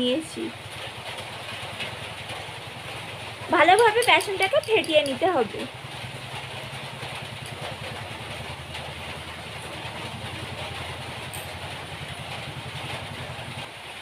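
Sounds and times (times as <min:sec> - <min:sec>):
small engine idling: 0:00.5 - 0:14.0.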